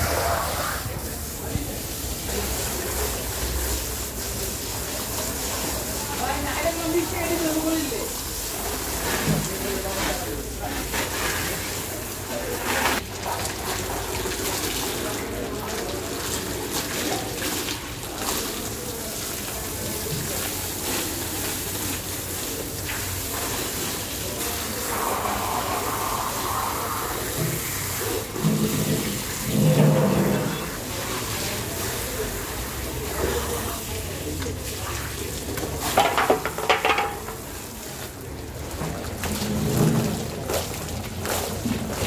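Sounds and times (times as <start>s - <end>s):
hose spraying water: 0.0s - 42.0s
water splashing on concrete: 0.0s - 42.0s.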